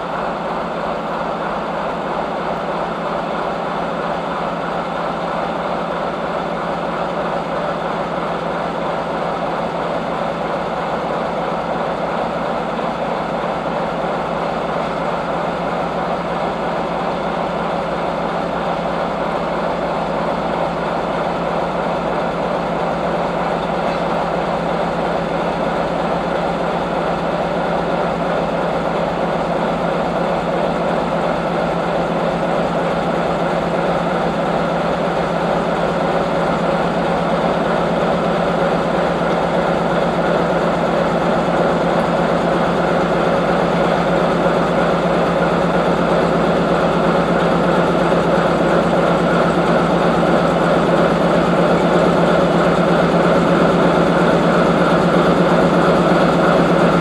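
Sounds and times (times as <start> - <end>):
heavy train engine humming: 0.0 - 57.0.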